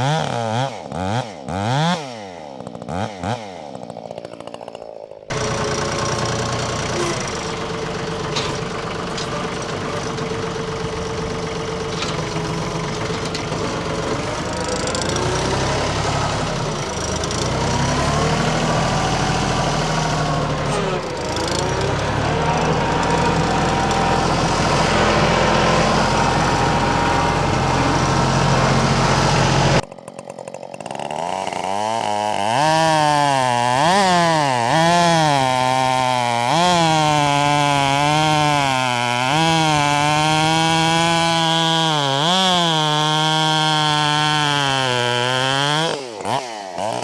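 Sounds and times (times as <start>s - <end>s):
chainsaw cutting log: 0.0s - 47.0s.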